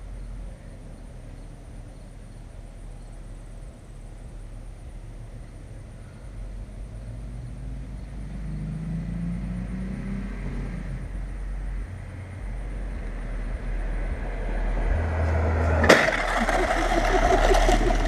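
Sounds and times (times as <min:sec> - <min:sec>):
vehicle engine rumble: 0:00.0 - 0:18.0.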